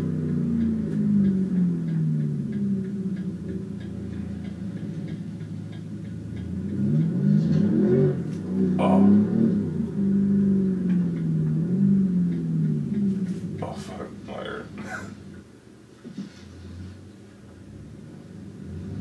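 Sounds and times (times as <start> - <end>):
sharp exhaust crack: 0.0 - 15.6
faint regular ticking: 0.0 - 15.9
car engine accelerating: 0.0 - 19.0.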